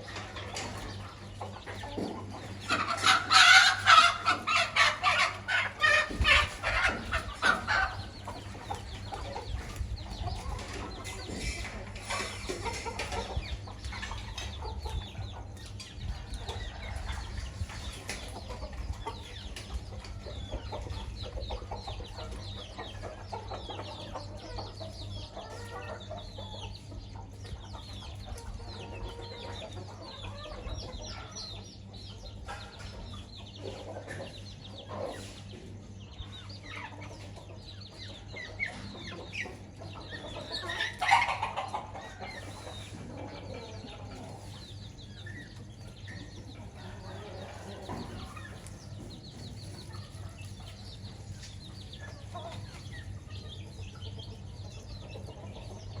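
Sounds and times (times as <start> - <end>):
chickens clucking: 0.0 - 56.0
high chick peeps: 0.0 - 56.0.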